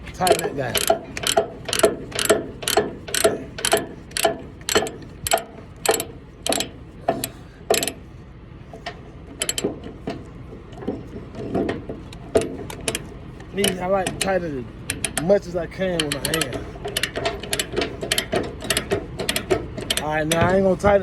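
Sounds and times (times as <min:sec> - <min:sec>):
ratchet pawl clicking: 0:00.1 - 0:08.0, 0:08.8 - 0:20.7.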